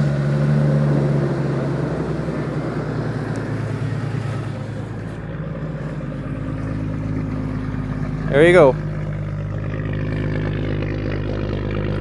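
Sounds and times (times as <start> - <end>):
car engine fast idle: 1.5 - 12.0.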